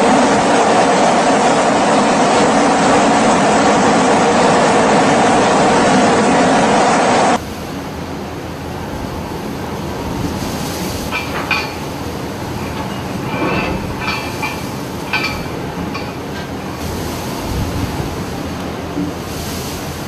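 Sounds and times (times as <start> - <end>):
heavy sea rushing: 0.0 - 20.0
storm wind: 0.0 - 20.0.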